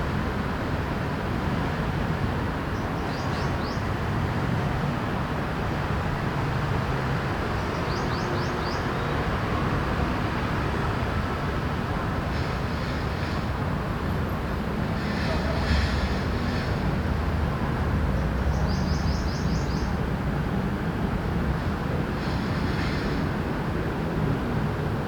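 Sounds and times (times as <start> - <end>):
city traffic hum: 0.0 - 25.0.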